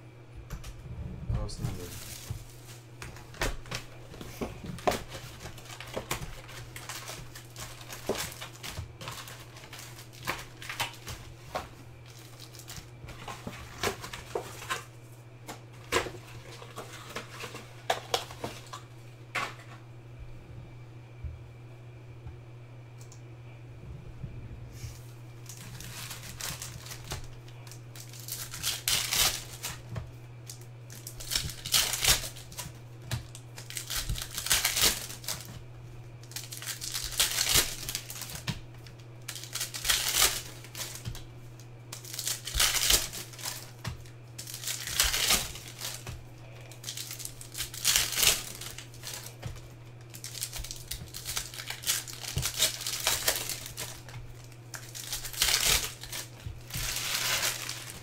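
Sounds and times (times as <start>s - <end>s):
steady low hum: 0.0s - 58.0s
plastic wrappers tearing and crinkling: 1.6s - 19.7s, 25.4s - 58.0s.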